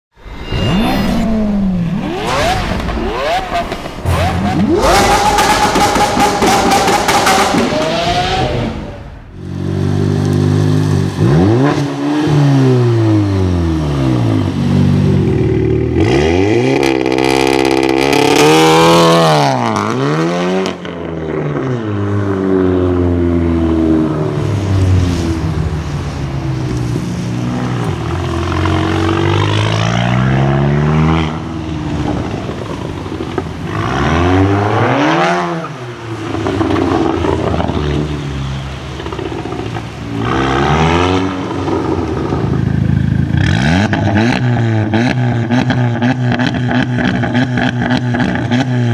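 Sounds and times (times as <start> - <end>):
loud car engine revving: 0.4 - 24.6, 27.3 - 48.9.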